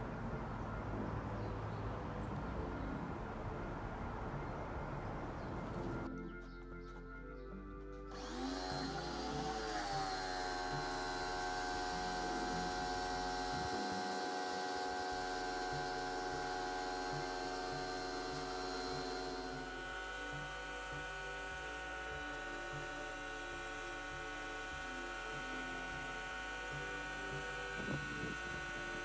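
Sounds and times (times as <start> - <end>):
pressure washer motor whining: 0.0 - 6.1, 8.1 - 29.0.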